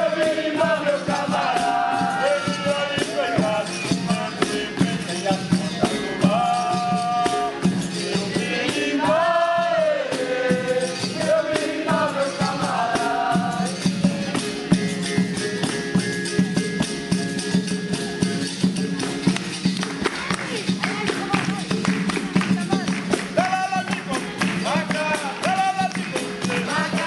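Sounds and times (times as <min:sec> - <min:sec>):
berimbau: 0:00.0 - 0:27.0
percussion beat: 0:00.0 - 0:27.0.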